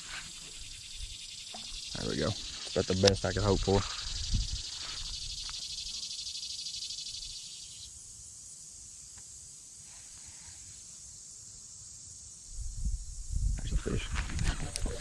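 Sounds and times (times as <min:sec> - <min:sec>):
high hiss: 0:00.0 - 0:15.0
insects buzzing: 0:00.0 - 0:15.0.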